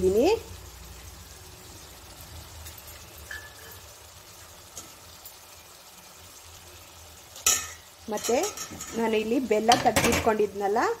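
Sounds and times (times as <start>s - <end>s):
liquid simmering in a pan: 0.0s - 11.0s.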